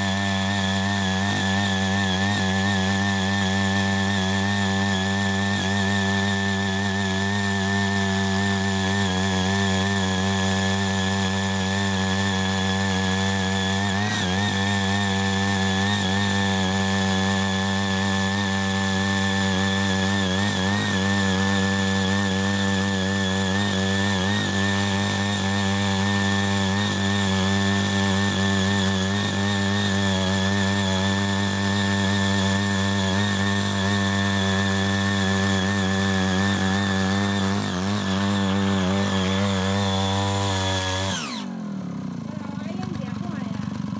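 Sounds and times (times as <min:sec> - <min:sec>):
power tiller engine running: 0:00.0 - 0:43.9.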